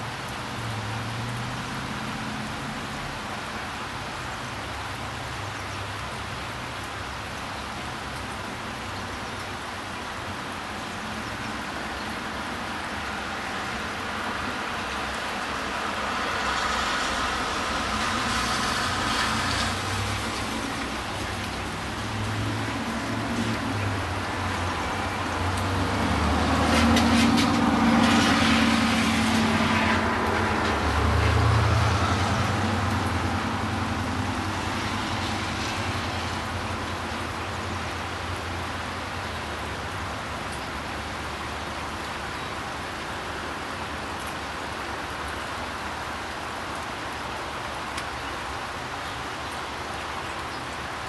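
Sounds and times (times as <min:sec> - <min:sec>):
passing vehicle rumble: 0:00.0 - 0:06.8, 0:09.7 - 0:50.1
steady rain: 0:00.0 - 0:51.0
tyres hissing on wet road: 0:00.0 - 0:51.0.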